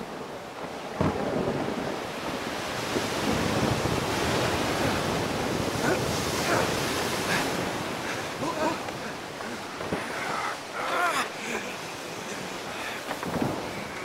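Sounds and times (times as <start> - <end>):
waves: 0.0 - 14.0
wind: 0.0 - 14.0.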